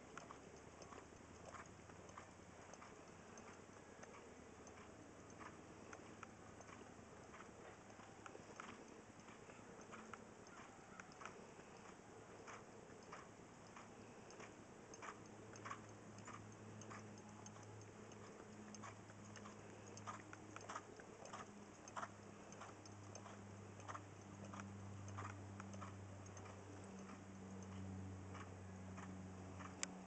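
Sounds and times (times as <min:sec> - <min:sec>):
hooves clicking on sand: 0:00.0 - 0:30.0
low steady hum: 0:00.0 - 0:30.0.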